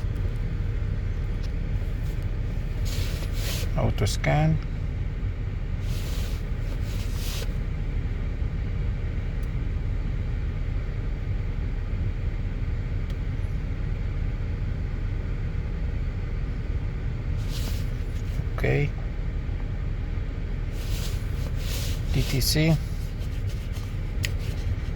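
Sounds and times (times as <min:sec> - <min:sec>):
car engine idling with misfire: 0:00.0 - 0:24.9.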